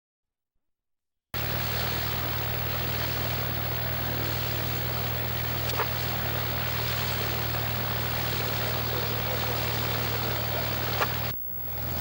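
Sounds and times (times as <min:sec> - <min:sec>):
propeller plane engine drone: 0:01.4 - 0:12.0.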